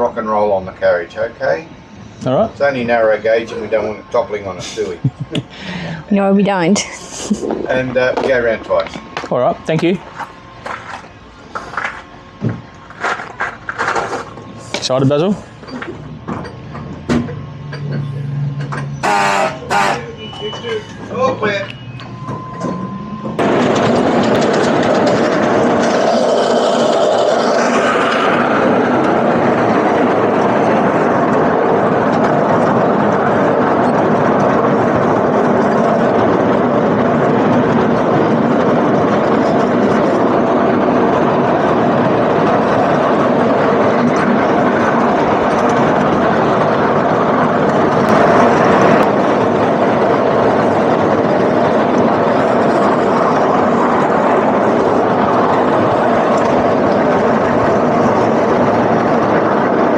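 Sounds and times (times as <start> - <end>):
miniature train rumbling on rails: 0.0 - 59.9.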